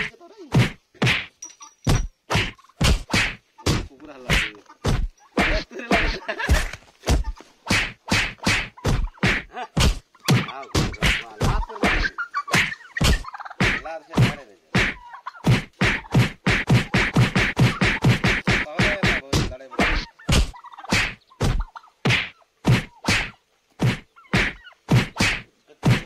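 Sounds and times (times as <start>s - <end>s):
turkeys fighting thwacking blows: 0.0s - 26.0s.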